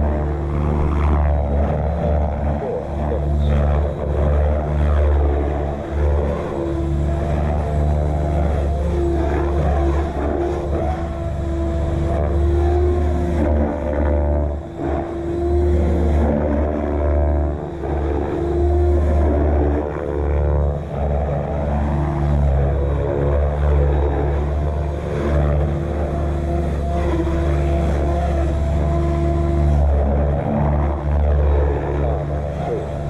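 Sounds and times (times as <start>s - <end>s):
helicopter rotor blades beating: 0.0s - 33.0s
motor and gears whining: 0.0s - 33.0s.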